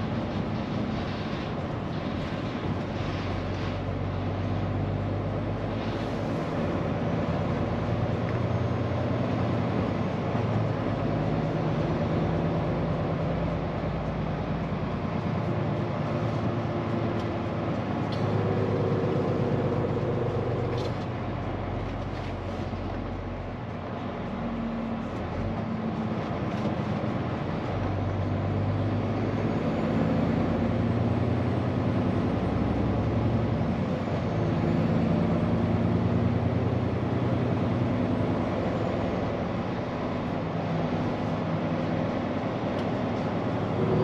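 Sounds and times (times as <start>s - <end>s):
road and tyre noise: 0.0s - 44.0s
truck diesel engine from cab: 0.0s - 44.0s.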